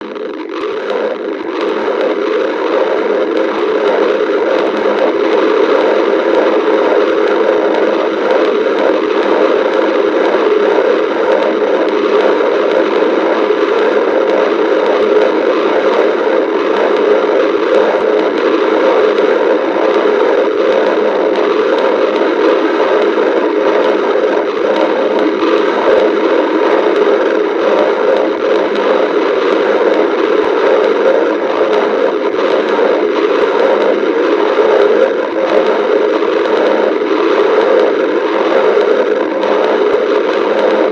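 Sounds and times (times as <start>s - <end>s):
stomach growling: 0.0s - 40.9s.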